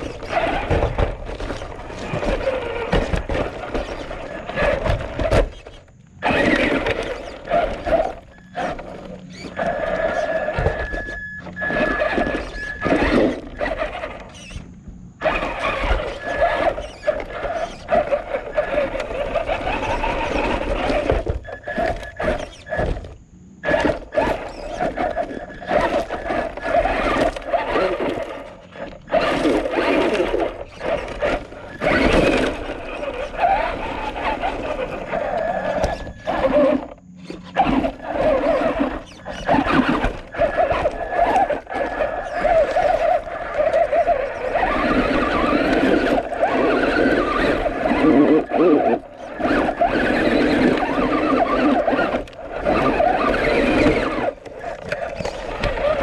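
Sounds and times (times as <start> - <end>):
toy truck electric motor whining: 0.0 - 56.0.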